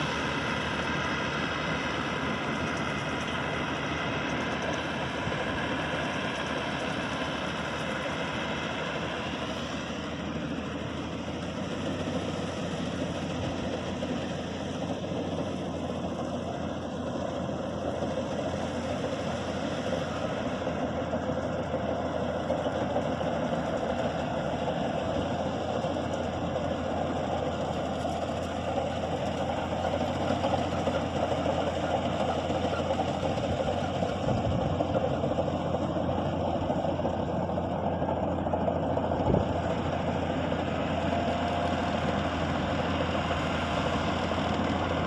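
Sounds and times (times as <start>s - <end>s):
combine harvester engine hum: 0.0s - 45.0s.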